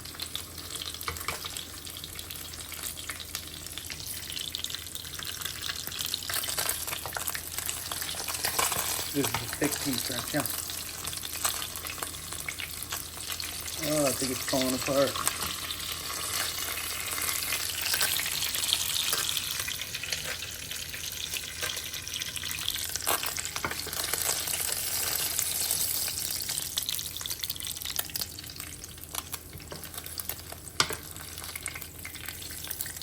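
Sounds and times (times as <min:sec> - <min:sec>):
fish frying in oil: 0:00.0 - 0:33.0.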